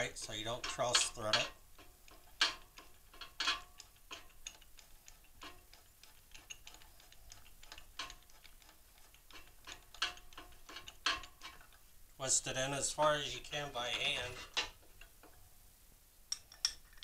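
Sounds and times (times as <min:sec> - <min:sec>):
faint metallic clicks and ticks: 0:00.0 - 0:15.5, 0:16.3 - 0:17.0.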